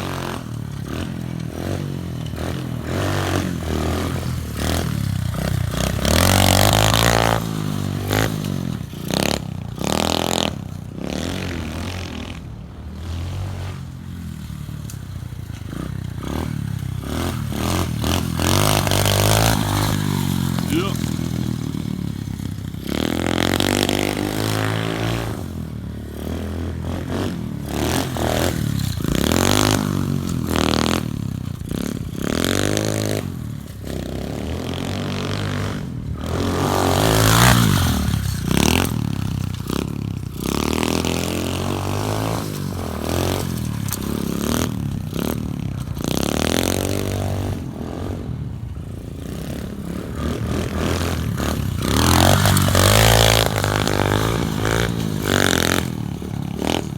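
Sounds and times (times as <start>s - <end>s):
motorbike engine revving: 0.0s - 56.9s.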